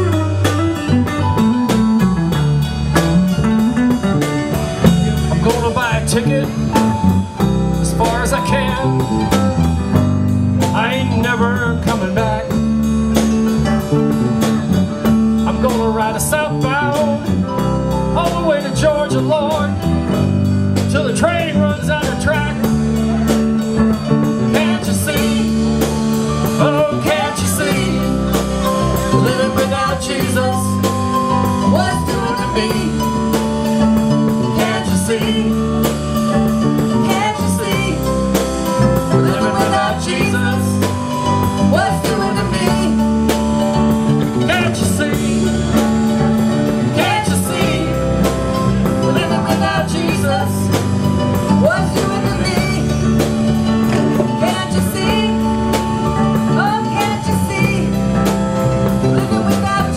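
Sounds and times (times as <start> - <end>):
bass guitar: 0.0 - 59.9
drums: 0.0 - 59.9
electric guitar: 0.0 - 59.9.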